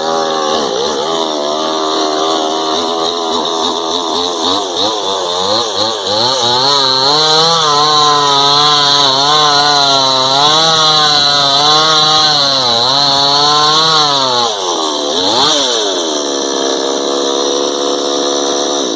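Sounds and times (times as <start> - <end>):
chainsaw cutting a tree: 0.0 - 18.9.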